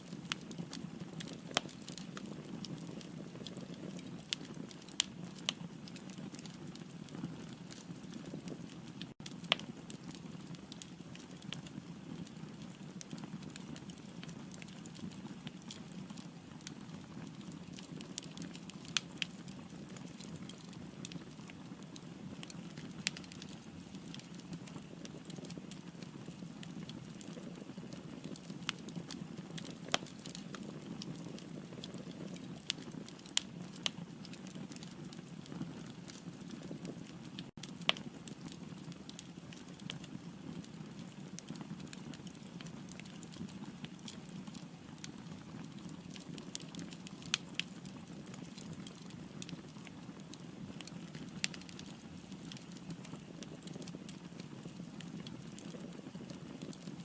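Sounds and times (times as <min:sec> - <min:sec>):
firewood crackles and pops: 0:00.0 - 0:57.0
low rumble of flames: 0:00.0 - 0:57.0.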